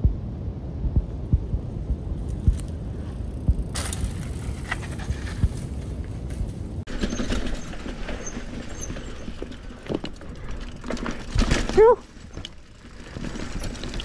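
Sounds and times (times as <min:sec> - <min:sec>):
bike tyres on dirt: 0:02.1 - 0:14.0
bike knocking and rattling: 0:02.2 - 0:14.0.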